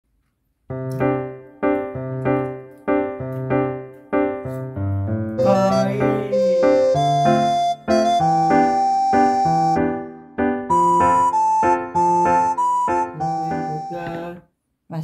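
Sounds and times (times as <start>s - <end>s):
keyboard music with bass line: 0.7s - 14.4s.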